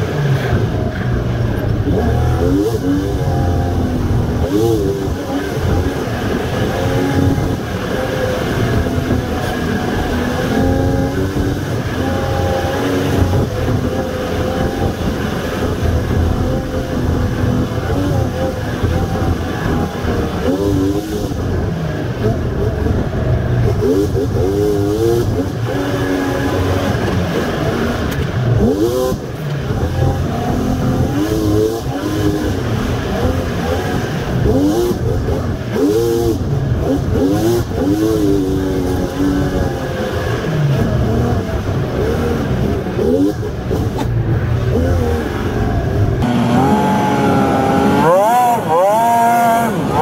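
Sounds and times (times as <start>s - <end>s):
vehicle engine revving: 0.0s - 50.0s.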